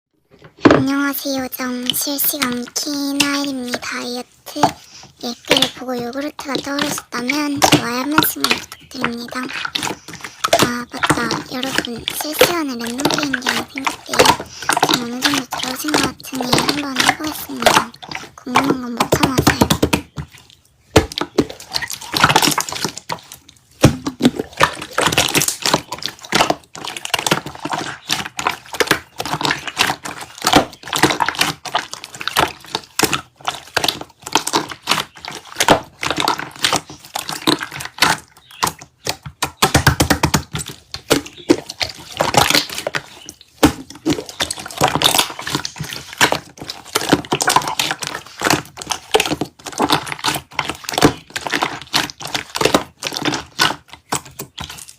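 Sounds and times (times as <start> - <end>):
slime squishing: 0.3 - 54.9.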